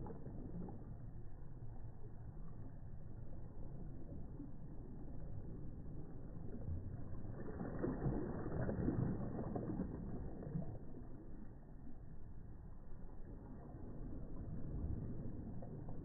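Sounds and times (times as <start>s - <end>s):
small waves breaking softly: 0.0s - 16.0s.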